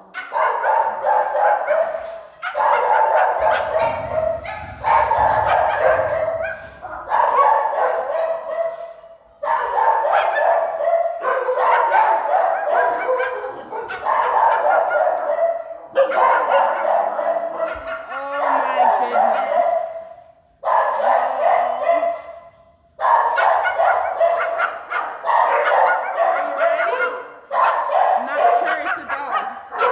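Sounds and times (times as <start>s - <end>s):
dogs barking and yipping: 0.0s - 29.9s.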